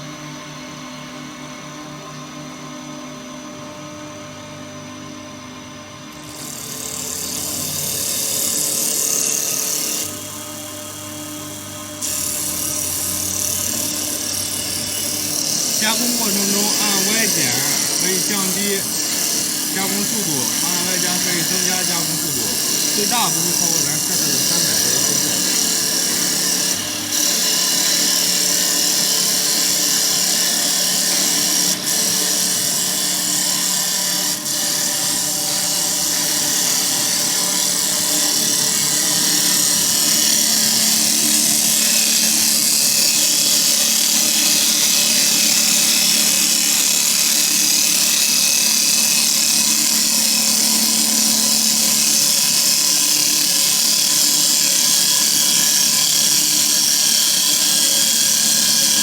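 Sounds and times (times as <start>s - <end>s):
cutters shaving spinning wood: 6.0s - 59.0s
lathe motors humming: 6.1s - 59.0s.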